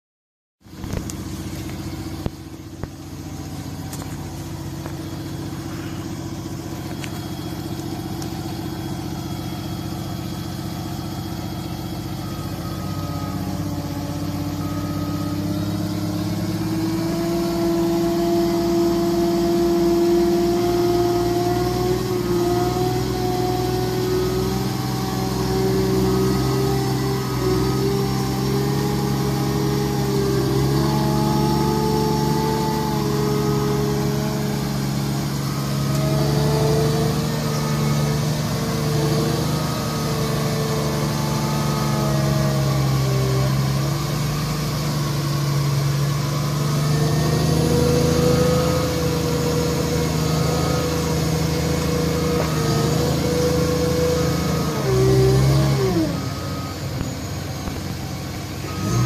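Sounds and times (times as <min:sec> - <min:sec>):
diesel engine running: 0:00.6 - 0:59.0.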